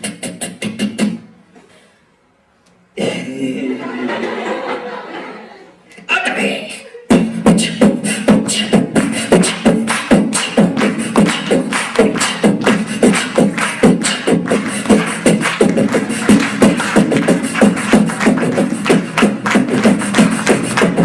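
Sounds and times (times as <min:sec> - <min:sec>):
man beatboxing: 0:00.0 - 0:01.5, 0:03.0 - 0:03.7, 0:06.0 - 0:21.0.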